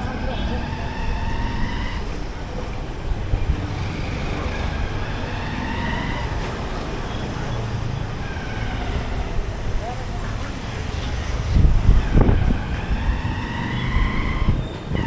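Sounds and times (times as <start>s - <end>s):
motorcycle engine rumble: 0.0s - 15.0s
road traffic: 0.0s - 15.0s
wind on microphone: 0.0s - 15.0s.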